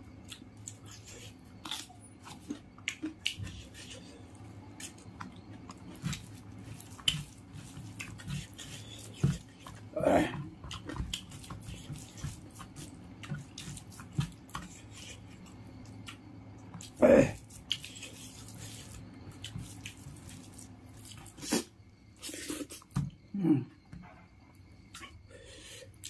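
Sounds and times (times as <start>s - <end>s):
mouth chewing: 0.2s - 22.8s
fingers squishing rice: 0.3s - 22.9s.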